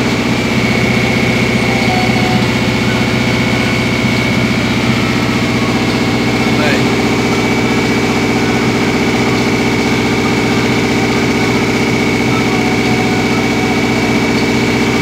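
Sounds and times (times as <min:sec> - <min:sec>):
engine idling: 0:00.0 - 0:15.0
thin high whine: 0:00.0 - 0:15.0.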